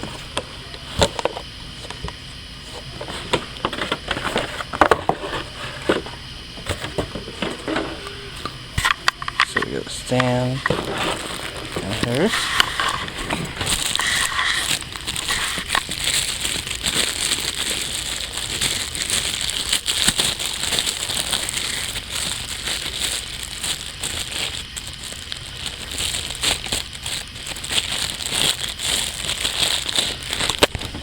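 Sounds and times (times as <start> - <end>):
plastic packaging crinkling: 0.0 - 31.0.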